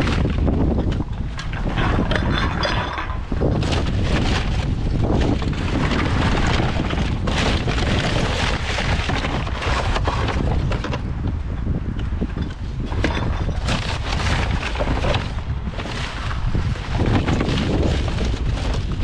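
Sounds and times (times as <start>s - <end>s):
rubbish rustling in plastic bin: 0.0s - 11.1s, 12.8s - 19.0s
wind buffeting microphone: 0.0s - 19.0s.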